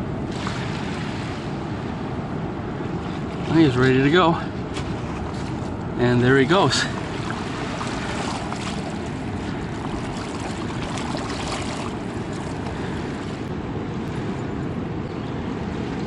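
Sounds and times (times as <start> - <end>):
river current rushing: 0.0 - 16.0.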